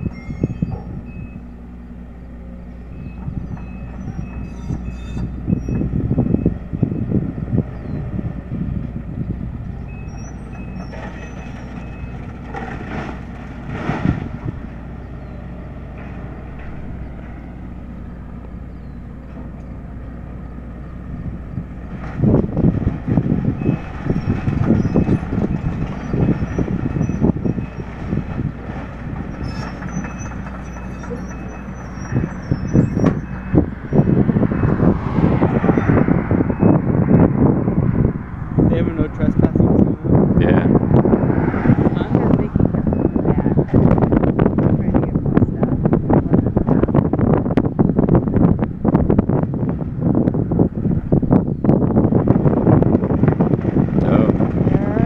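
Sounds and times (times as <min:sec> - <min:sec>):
large engine running: 0:00.0 - 0:55.0.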